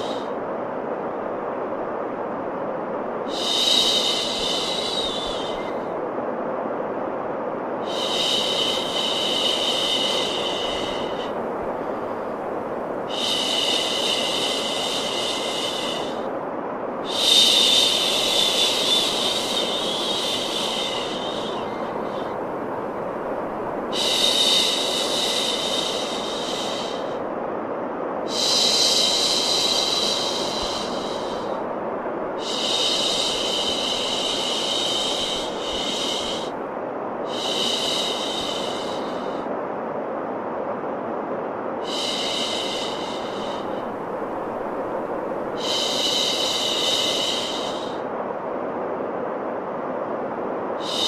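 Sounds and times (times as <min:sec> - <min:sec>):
steady white noise: 0:00.0 - 0:51.0.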